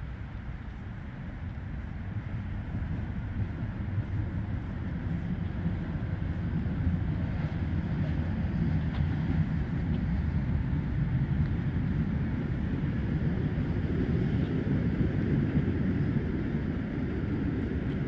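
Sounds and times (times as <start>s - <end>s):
distant city traffic: 0.0s - 18.0s
wind buffeting microphone: 0.0s - 18.0s.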